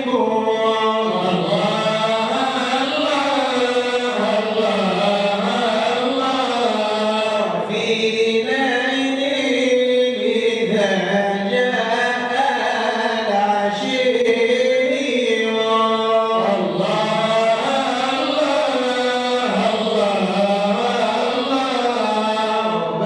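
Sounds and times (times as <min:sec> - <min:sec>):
devotional chanting: 0:00.0 - 0:23.0.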